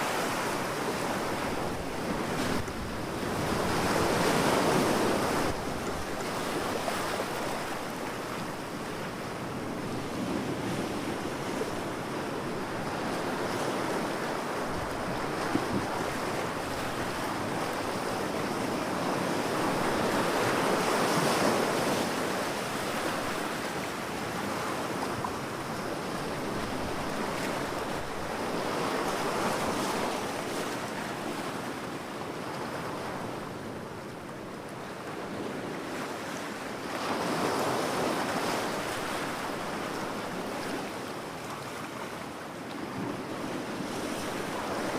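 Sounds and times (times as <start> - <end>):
ocean waves breaking on beach: 0.0 - 44.9.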